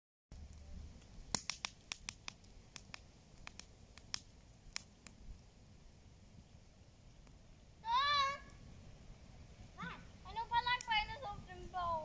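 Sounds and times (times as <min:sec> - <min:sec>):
campfire crackling: 0:00.3 - 0:12.0.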